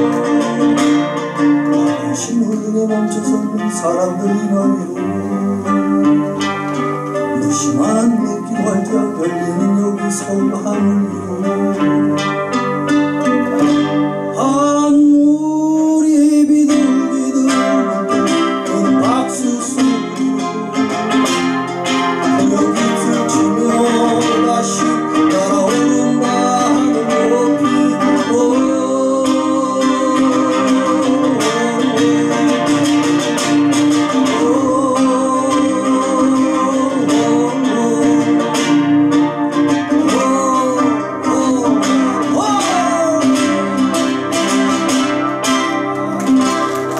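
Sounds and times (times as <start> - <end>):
man singing: 0.0 - 46.9
strummed nylon-string guitar: 0.0 - 46.9.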